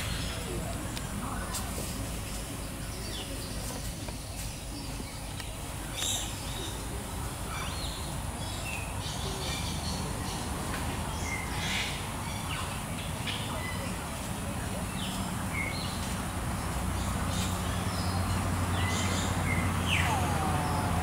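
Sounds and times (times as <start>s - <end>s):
birds chirping: 0.0s - 21.0s
low background noise: 0.0s - 21.0s.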